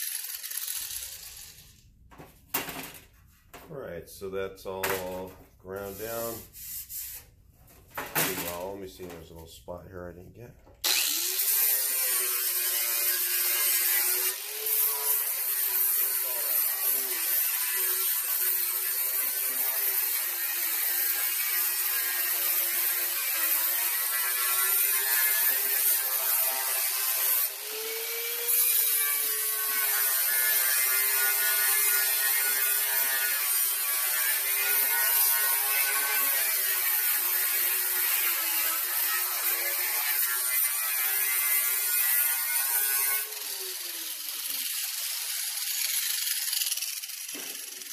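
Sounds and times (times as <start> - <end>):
angle grinder grinding metal: 0.0 - 1.8, 10.8 - 47.9.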